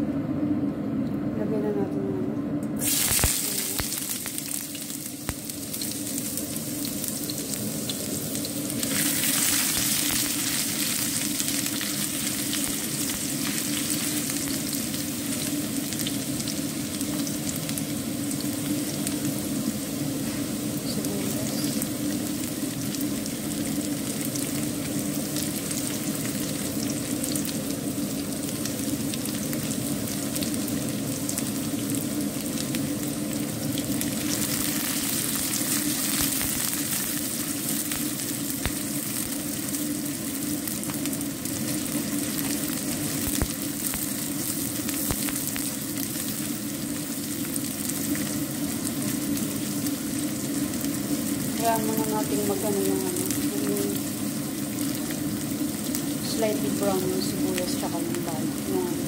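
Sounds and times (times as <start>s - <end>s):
ginger sizzling in hot oil: 2.8s - 59.0s.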